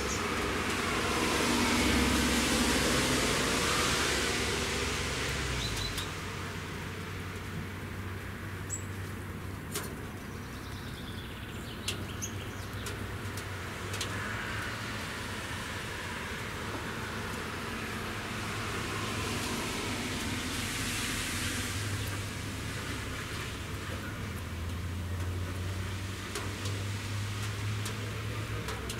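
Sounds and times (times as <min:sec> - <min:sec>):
distant road traffic hiss: 0:00.0 - 0:28.9
vehicle passing: 0:00.0 - 0:28.9.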